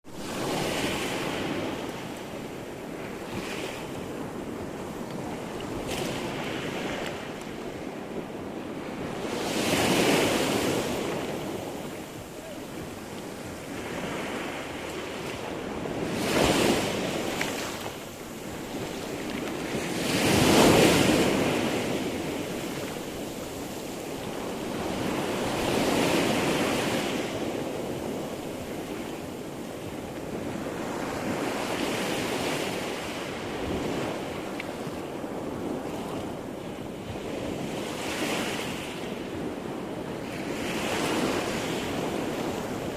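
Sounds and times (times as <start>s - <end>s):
waves breaking: 0.1s - 42.9s.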